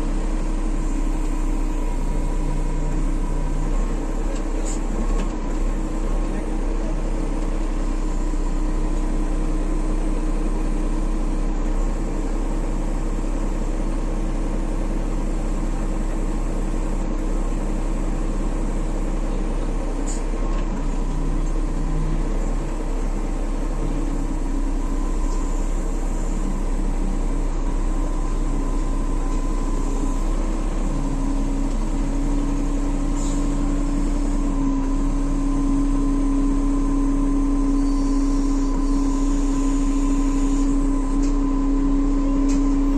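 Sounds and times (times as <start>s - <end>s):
machine engine humming: 0.0s - 42.9s.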